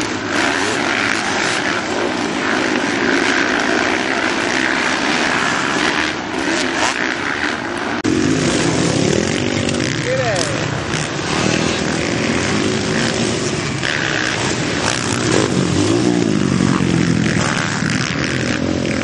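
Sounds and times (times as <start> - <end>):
dirt bike engines droning: 0.0 - 19.0.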